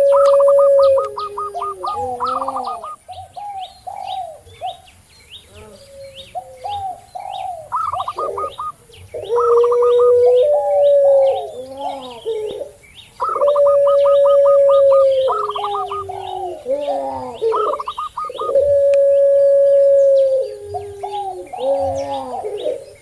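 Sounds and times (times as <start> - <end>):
doves cooing: 0.0 - 4.8, 5.5 - 23.0
small birds chirping: 0.0 - 23.0.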